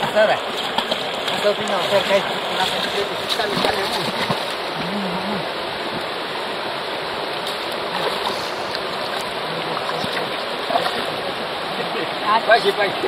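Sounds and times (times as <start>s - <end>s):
river rushing over riffles: 0.0s - 13.0s.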